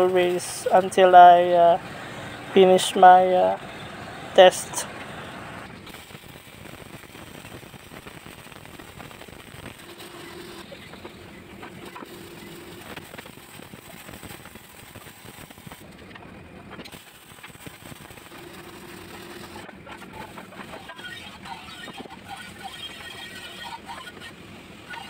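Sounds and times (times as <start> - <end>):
workshop machinery noise: 0.0 - 25.0.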